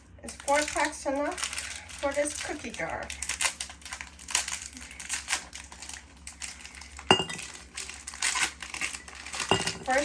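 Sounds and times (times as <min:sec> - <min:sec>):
plastic packaging crinkling: 0:00.1 - 0:10.0.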